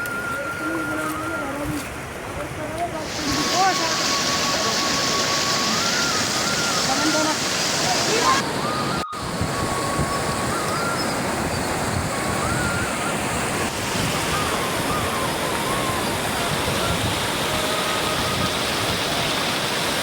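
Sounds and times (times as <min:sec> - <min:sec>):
faint wavering high tone: 0:00.0 - 0:01.8, 0:03.0 - 0:19.2
water flowing: 0:00.0 - 0:20.0.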